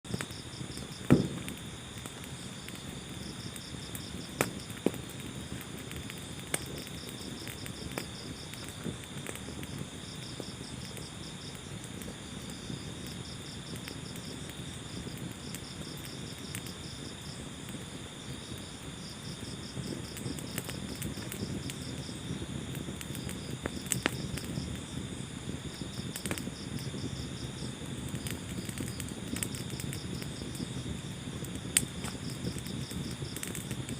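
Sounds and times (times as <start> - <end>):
fire crackling and popping: 0.0 - 33.9.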